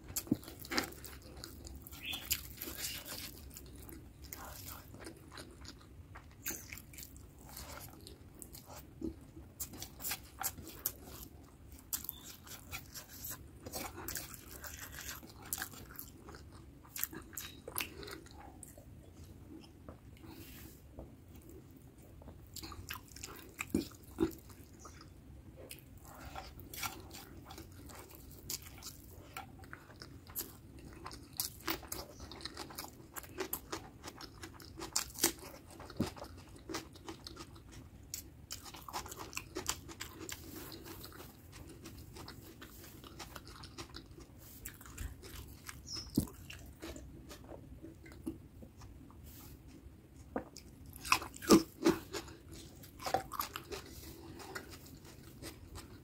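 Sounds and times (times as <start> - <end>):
chewing food: 0.0 - 56.0.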